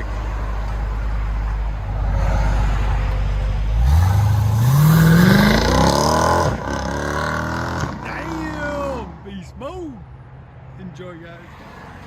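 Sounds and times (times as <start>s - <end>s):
car engine rumbling and accelerating: 0.0s - 12.0s.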